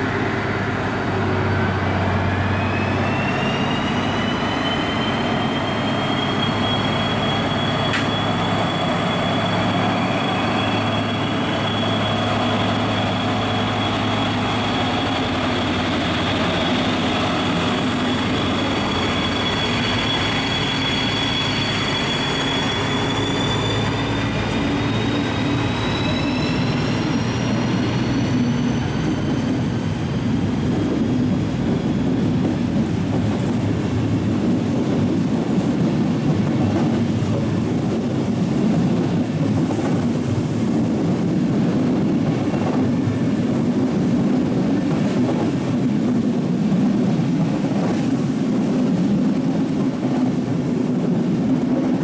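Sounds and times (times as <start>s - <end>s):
diesel locomotive engines rumbling: 0.0s - 52.0s
train coaches rolling past: 0.0s - 52.0s.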